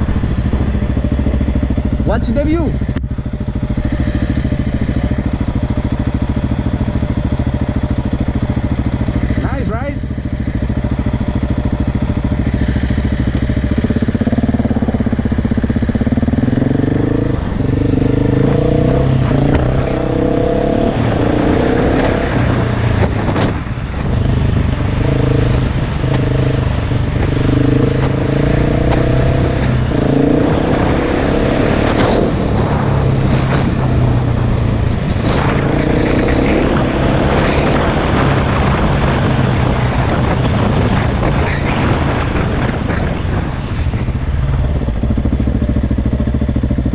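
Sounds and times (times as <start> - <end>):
dirt bike engine revving: 0.0 - 23.6, 24.2 - 34.5, 35.1 - 42.8.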